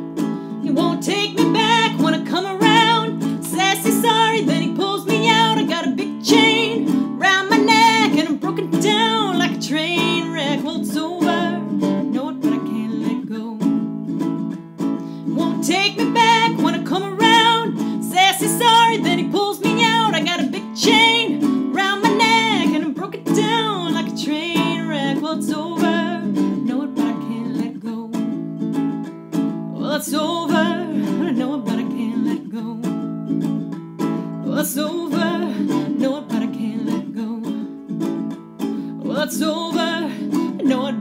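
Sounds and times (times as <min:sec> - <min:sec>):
ukulele strumming: 0:00.0 - 0:41.0
woman singing: 0:00.5 - 0:13.9, 0:15.0 - 0:28.4, 0:29.6 - 0:33.2, 0:34.2 - 0:38.2, 0:38.8 - 0:41.0.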